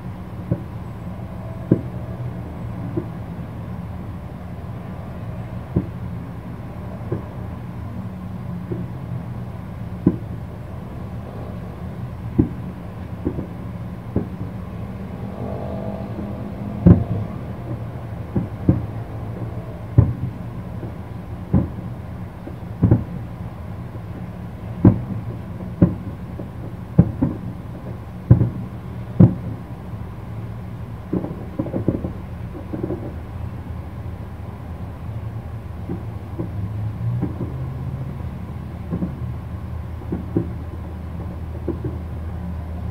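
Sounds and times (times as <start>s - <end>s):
distant fireworks booming: 0.0s - 42.9s.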